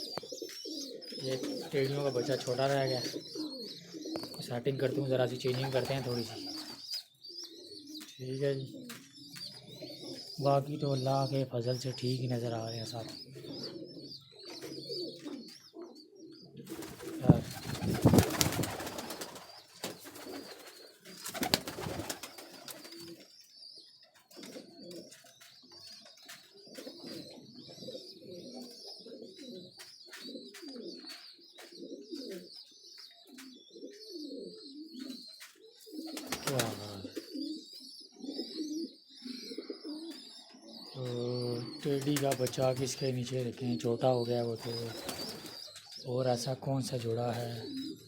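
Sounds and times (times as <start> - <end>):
pigeons cooing: 0.0 - 48.0.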